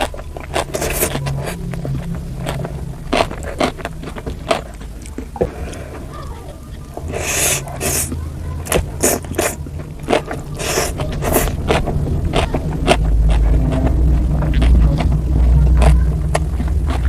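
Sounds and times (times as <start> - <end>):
noodle slurping: 0.0 - 17.0
steady low hum: 0.0 - 17.0
wet chewing: 0.0 - 17.0.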